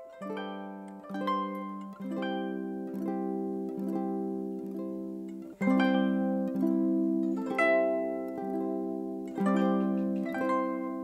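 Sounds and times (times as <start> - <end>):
plucked strings melody: 0.0 - 11.0.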